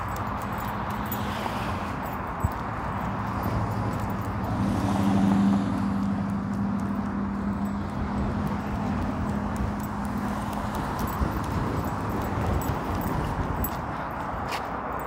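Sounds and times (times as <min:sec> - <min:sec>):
footsteps on concrete: 0:00.0 - 0:15.0
passing vehicle engine hum: 0:00.0 - 0:15.0.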